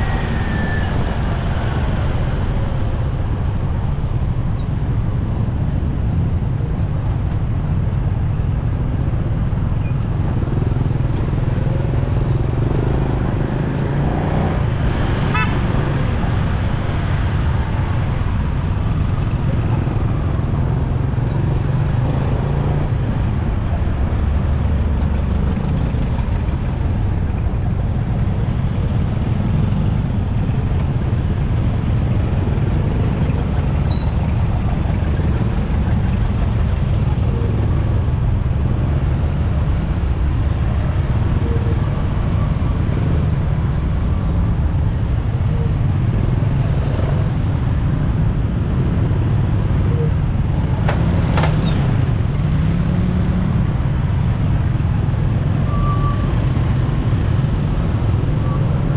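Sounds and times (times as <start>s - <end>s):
traffic noise: 0.0s - 58.9s.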